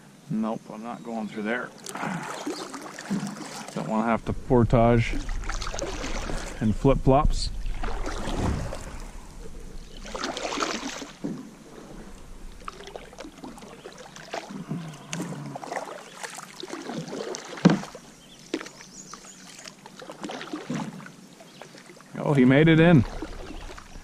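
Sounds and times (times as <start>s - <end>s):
paddle swishing and splashing: 1.8s - 4.1s, 4.9s - 6.8s, 7.5s - 22.0s, 22.8s - 24.0s.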